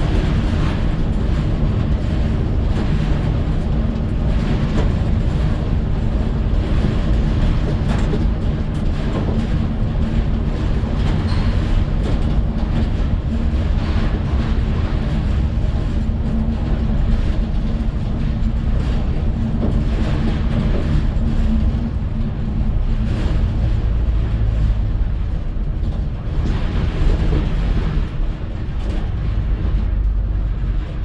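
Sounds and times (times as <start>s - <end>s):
vehicle engine and road noise: 0.0s - 31.0s.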